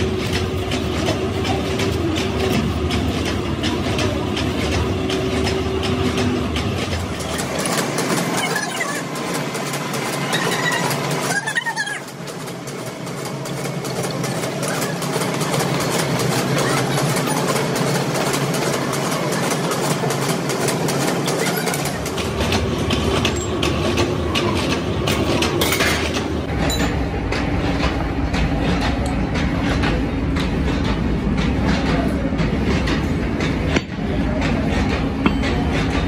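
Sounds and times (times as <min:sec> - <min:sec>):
machine tool rhythmic clatter: 0:00.0 - 0:36.0.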